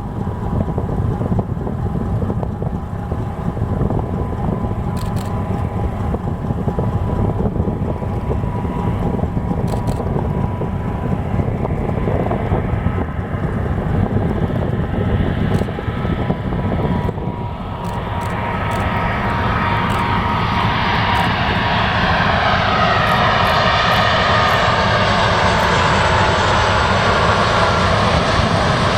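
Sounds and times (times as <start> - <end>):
boat engine rumble: 0.0 - 28.9
jet engine whine: 0.0 - 28.9
wind: 0.0 - 28.9.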